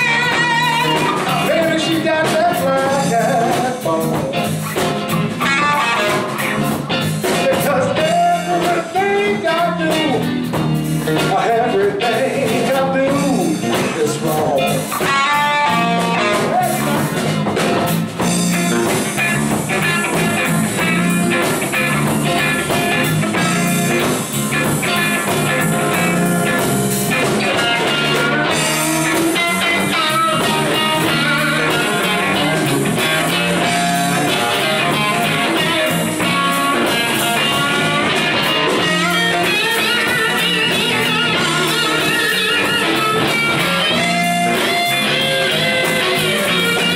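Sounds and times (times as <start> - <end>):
drum kit steady beat: 0.0 - 46.9
electric bass: 0.0 - 46.9
electric guitar lead: 0.0 - 46.9.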